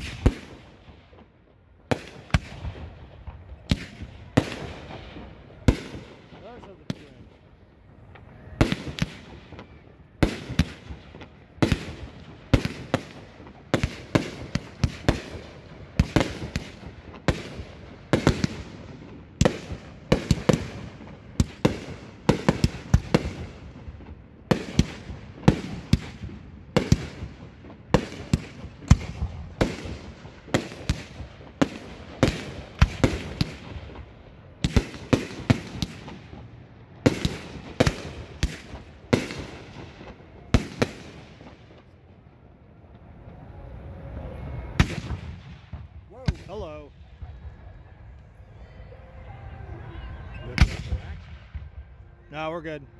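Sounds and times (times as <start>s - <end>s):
fireworks bursting: 0.0s - 52.9s.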